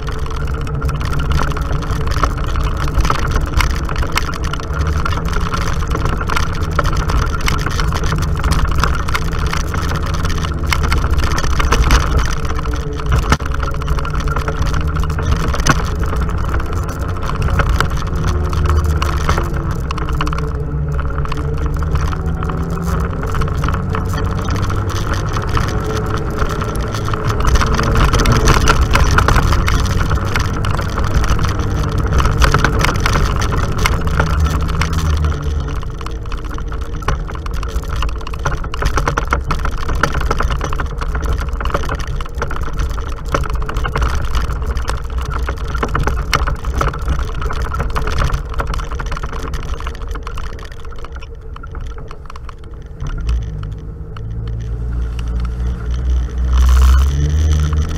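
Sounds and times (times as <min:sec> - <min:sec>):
off-road vehicle engine running: 0:00.0 - 0:57.9
rattling clicks and knocks: 0:00.0 - 0:57.9.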